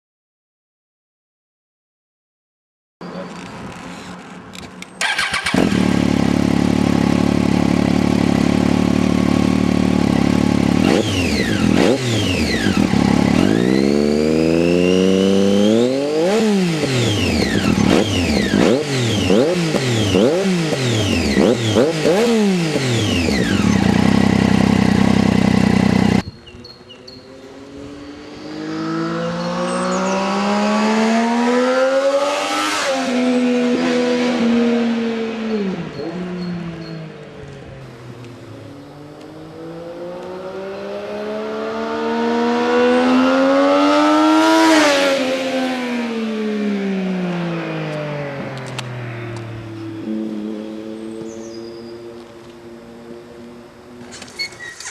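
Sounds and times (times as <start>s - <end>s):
motorcycle engine revving: 5.0s - 54.9s
motorcycle passing by: 5.0s - 54.9s.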